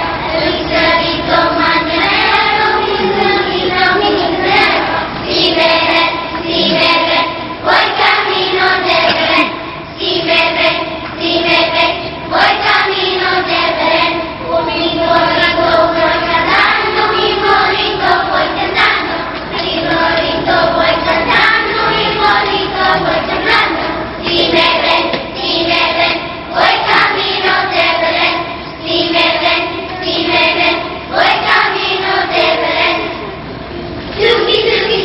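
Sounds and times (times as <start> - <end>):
children singing in chorus: 0.0 - 33.5.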